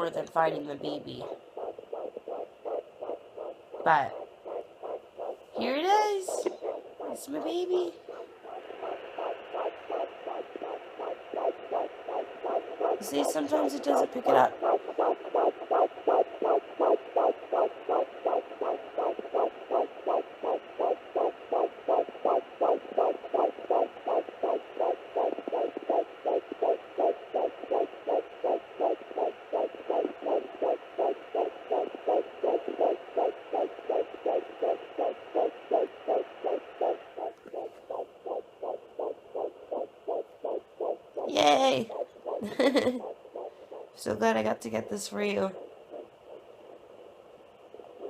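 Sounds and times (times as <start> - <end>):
fetal heartbeat whooshing pulses: 0.0 - 48.0.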